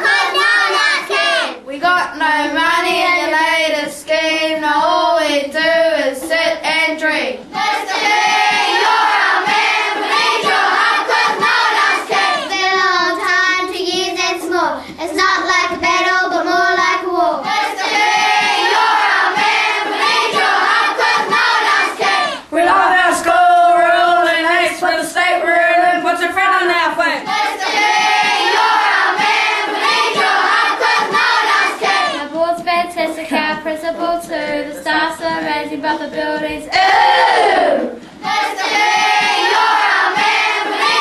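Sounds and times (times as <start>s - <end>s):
children chanting a rap: 0.0s - 41.0s.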